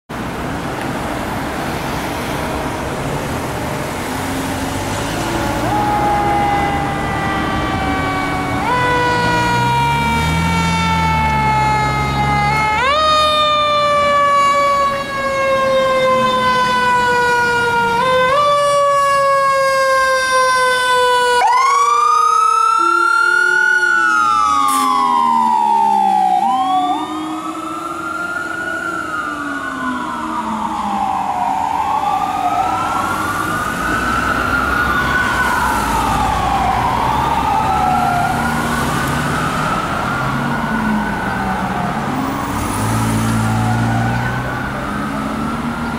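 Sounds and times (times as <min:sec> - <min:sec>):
fire engine siren: 0:00.2 - 0:45.9
low-pitched howler siren tone: 0:04.8 - 0:45.9.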